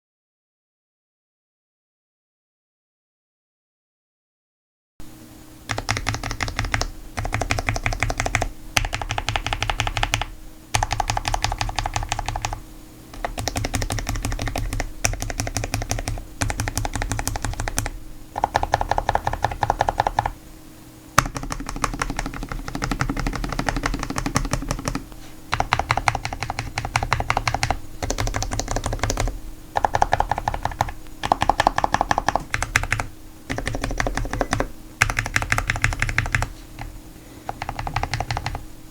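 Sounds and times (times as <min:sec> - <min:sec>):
mechanical keyboard typing: 0:05.7 - 0:20.4, 0:21.2 - 0:38.6.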